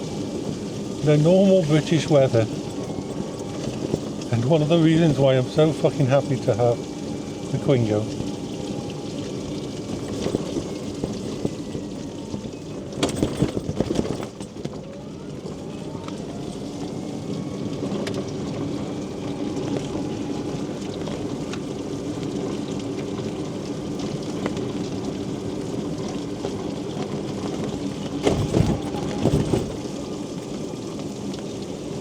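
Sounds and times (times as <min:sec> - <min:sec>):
mobility scooter motor hum: 0:00.0 - 0:32.0
rain pattering: 0:00.0 - 0:32.0.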